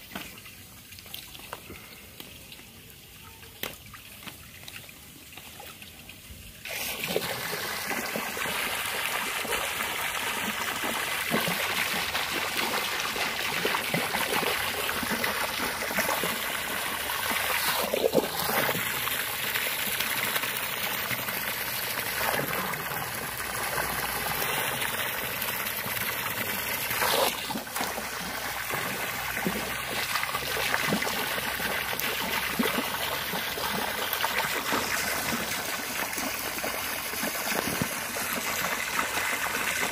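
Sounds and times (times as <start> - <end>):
water pouring into a pool: 0.0 - 39.9.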